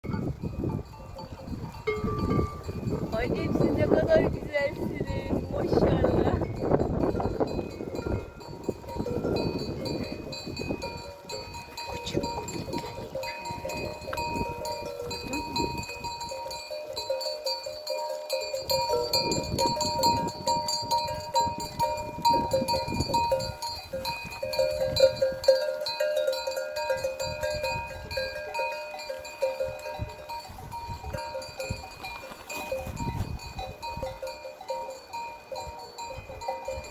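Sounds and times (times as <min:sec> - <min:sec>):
goat bells clinking: 0:00.0 - 0:36.9.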